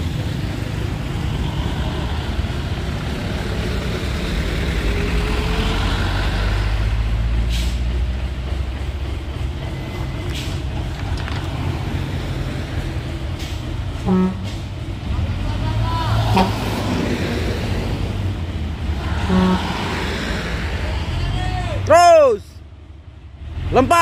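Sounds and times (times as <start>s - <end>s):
diesel trucks running under load: 0.0s - 24.0s.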